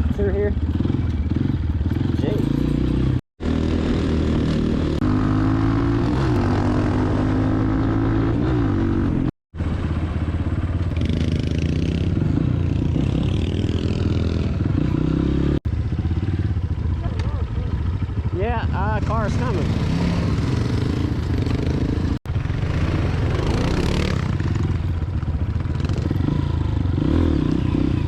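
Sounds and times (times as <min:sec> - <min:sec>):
dirt bike engine revving: 0:00.0 - 0:09.3, 0:11.0 - 0:16.6, 0:17.2 - 0:28.0.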